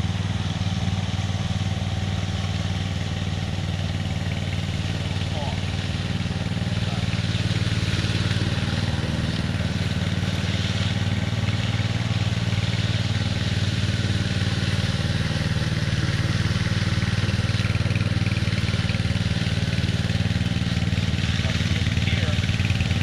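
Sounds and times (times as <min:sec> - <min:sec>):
power trowel engine running: 0:00.0 - 0:23.0.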